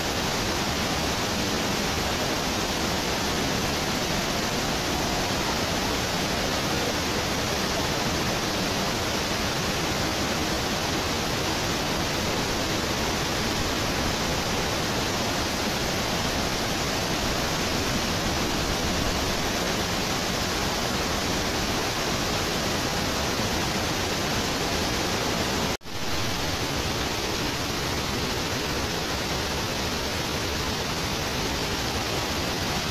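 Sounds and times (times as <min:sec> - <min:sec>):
waterfall roaring: 0:00.0 - 0:32.9.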